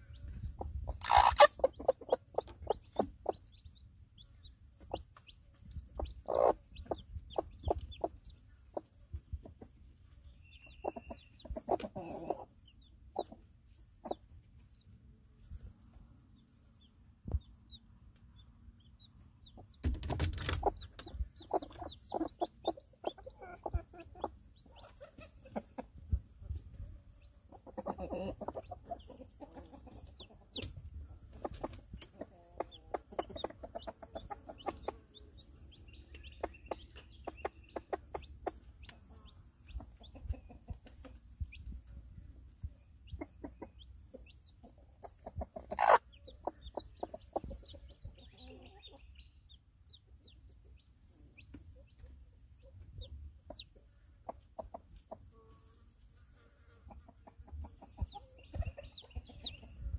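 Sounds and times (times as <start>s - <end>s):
hens clucking: 0.0s - 15.2s, 17.3s - 59.9s
chicks peeping: 0.0s - 59.9s.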